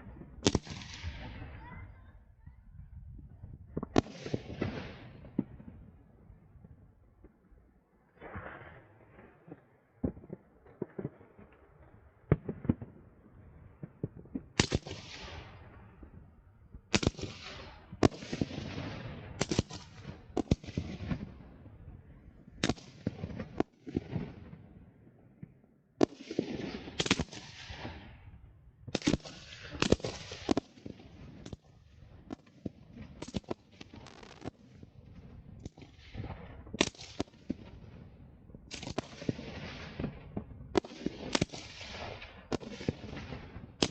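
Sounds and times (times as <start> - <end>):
fireworks bangs and booms: 0.0 - 43.9.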